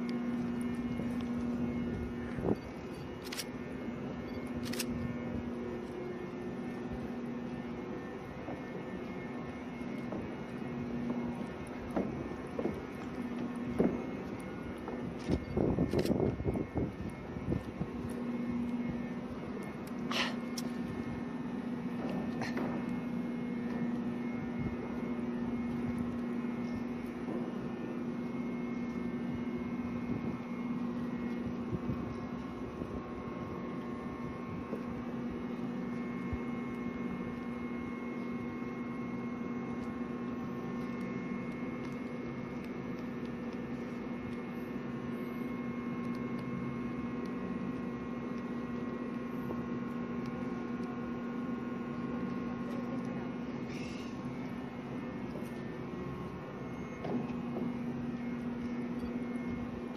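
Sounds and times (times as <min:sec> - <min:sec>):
faint high whine: 0:00.0 - 0:59.9
machine hum with low drone: 0:00.0 - 0:59.9.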